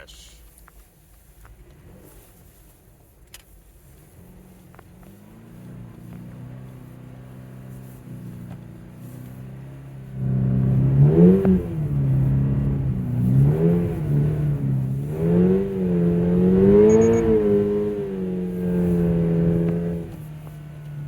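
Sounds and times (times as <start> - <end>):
car engine revving hard: 3.8 - 21.0.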